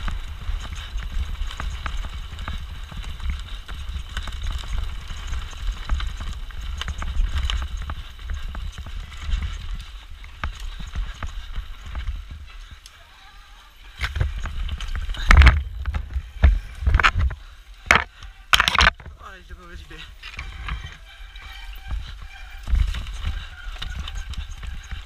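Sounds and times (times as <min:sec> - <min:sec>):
bike rattling over rocks: 0:00.0 - 0:25.0
wind and ground rumble: 0:00.0 - 0:25.0.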